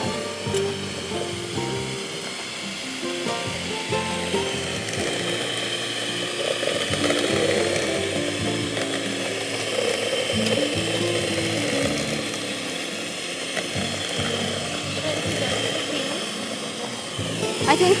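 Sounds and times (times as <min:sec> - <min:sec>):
electric stand mixer running: 0:00.0 - 0:18.0.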